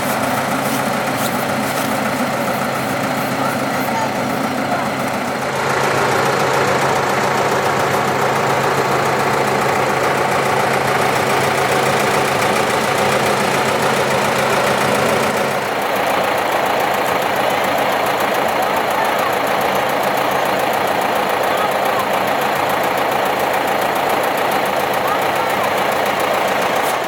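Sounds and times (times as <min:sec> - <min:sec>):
engine idling with knocking: 0:00.0 - 0:27.0.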